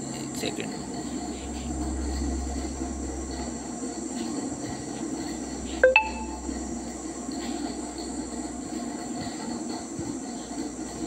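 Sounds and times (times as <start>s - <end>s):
low hum and hiss: 0.0s - 9.2s.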